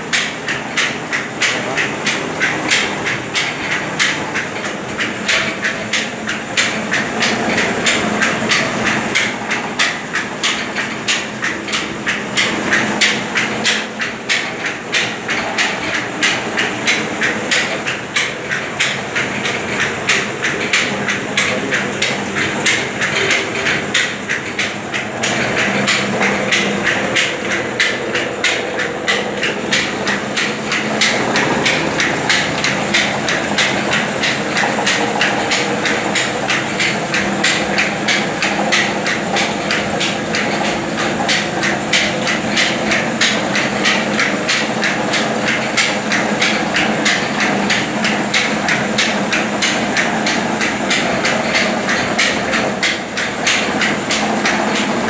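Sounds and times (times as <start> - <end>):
grain mill machinery humming: 0.0 - 55.0
machinery clattering: 0.0 - 55.0.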